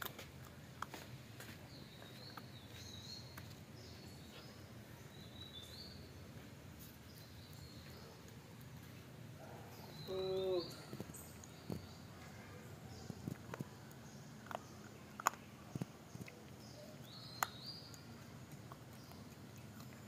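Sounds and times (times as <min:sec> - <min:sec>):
faint bird chirping: 0:01.4 - 0:20.0.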